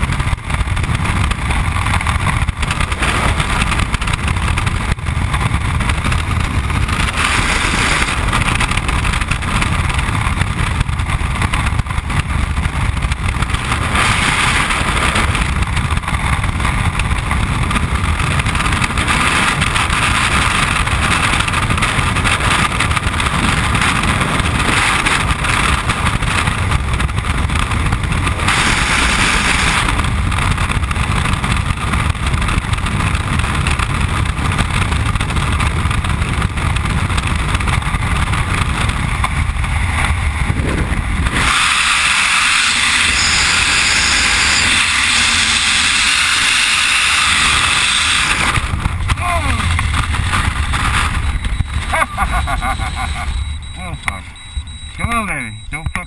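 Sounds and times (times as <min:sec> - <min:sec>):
wind roaring over a microphone: 0:00.0 - 0:56.0.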